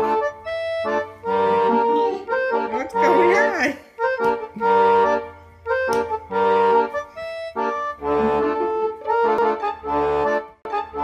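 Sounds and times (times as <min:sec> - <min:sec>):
bass line: 0:00.0 - 0:11.0
instrumental tune: 0:00.0 - 0:11.0.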